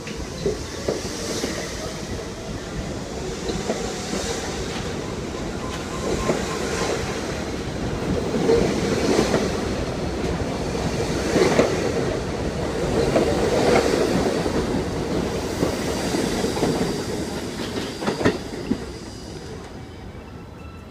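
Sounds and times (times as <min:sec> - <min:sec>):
subway train rumbling: 0:00.0 - 0:20.9.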